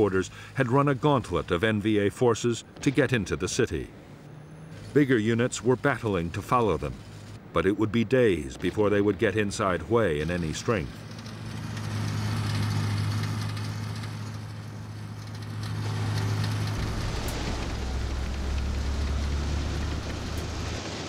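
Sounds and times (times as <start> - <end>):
road noise: 0.0 - 21.0
truck engines droning: 0.0 - 21.0.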